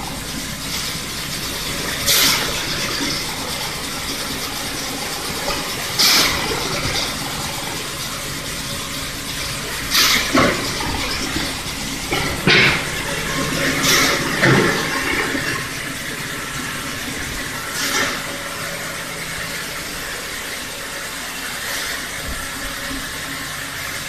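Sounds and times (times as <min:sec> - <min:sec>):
rushing machinery noise: 0:00.0 - 0:24.0.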